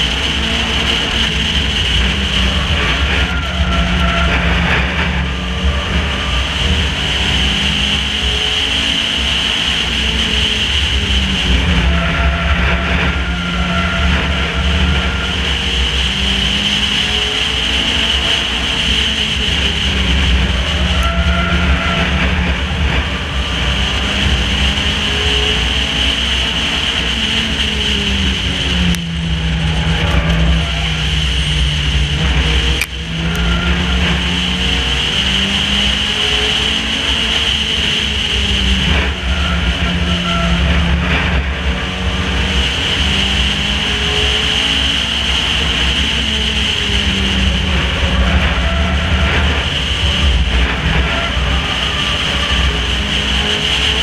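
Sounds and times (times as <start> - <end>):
race car engine: 0.0 - 54.0.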